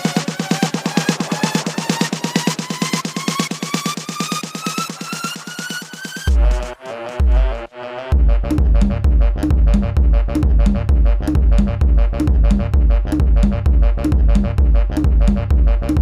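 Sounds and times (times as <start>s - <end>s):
electronic dance beat: 0.0s - 16.0s.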